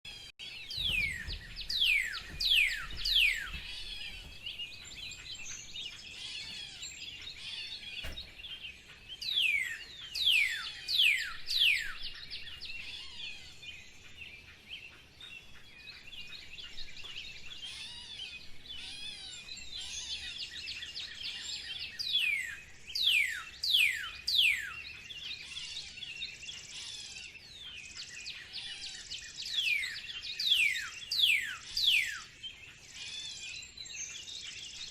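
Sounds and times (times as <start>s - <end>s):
birds twittering: 0.1s - 34.9s.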